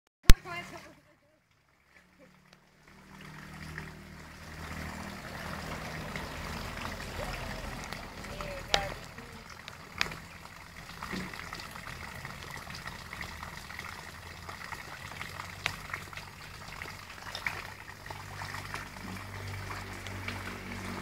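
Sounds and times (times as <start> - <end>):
water bubbling and trickling: 0.3 - 21.0.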